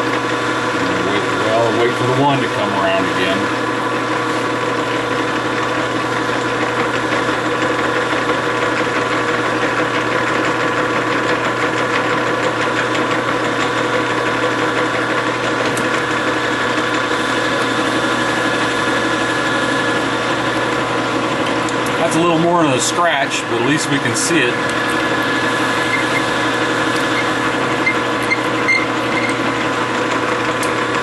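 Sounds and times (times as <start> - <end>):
metal lathe motor whine: 0.0 - 31.0
lathe tool scratching metal: 0.1 - 31.0.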